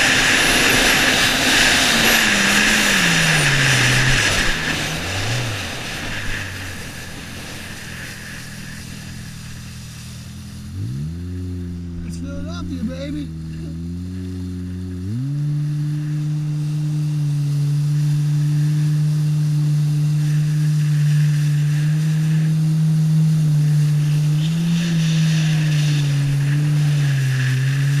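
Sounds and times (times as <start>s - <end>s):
jet ski engine revving: 0.0s - 28.0s
wind and spray hiss: 0.0s - 28.0s.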